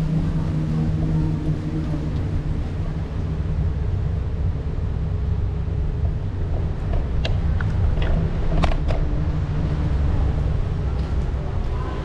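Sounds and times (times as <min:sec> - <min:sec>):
scooter wheel and wind noise: 0:00.0 - 0:12.0.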